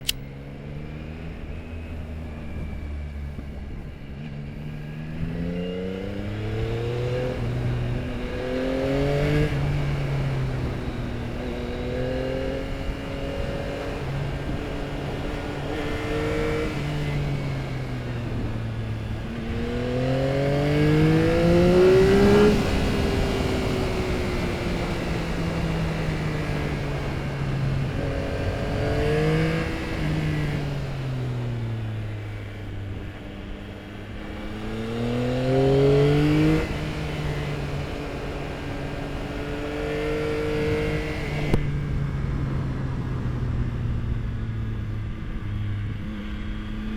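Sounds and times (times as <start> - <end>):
motorcycle engine revving: 4.5 - 46.9.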